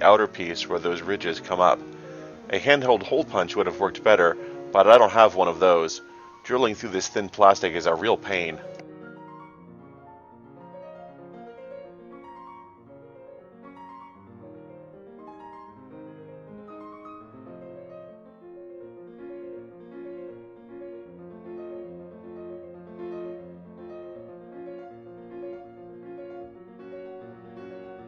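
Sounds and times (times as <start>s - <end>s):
piano melody with chords: 0.0s - 28.0s.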